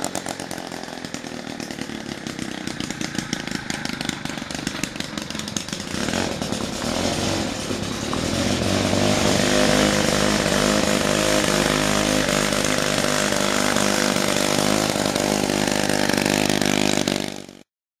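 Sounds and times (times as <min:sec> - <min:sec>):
scooter engine running: 0:00.0 - 0:17.7.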